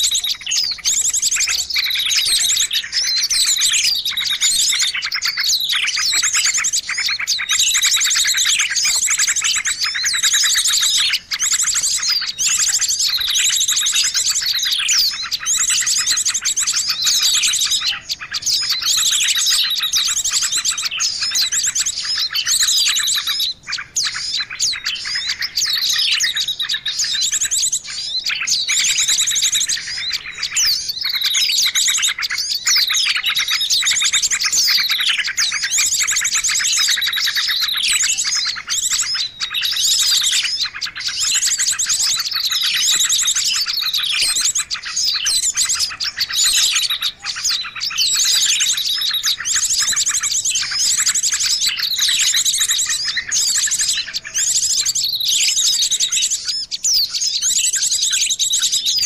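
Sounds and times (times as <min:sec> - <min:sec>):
falling bird whistles: 0:00.0 - 0:59.0
songbirds chirping and trilling: 0:00.0 - 0:59.0.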